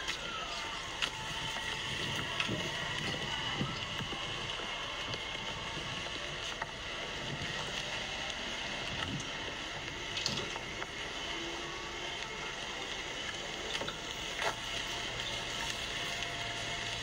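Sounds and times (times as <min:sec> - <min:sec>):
street background hiss: 0:00.0 - 0:17.0.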